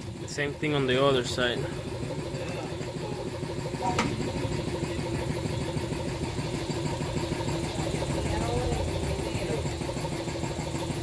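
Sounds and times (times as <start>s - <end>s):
machine idling: 0.0s - 11.0s.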